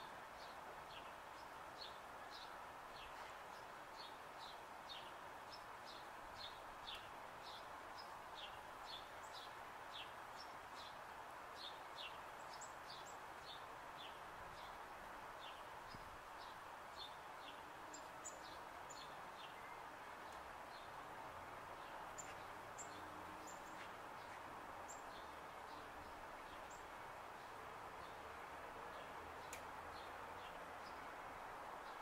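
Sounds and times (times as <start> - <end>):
faint background noise: 0.0 - 32.0
small birds chirping: 0.4 - 28.3, 28.9 - 32.0.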